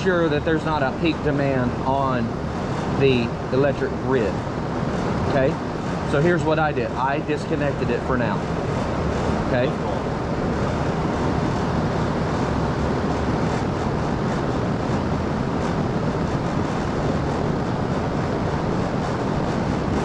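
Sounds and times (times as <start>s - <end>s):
air conditioner unit rushing: 0.0s - 20.0s.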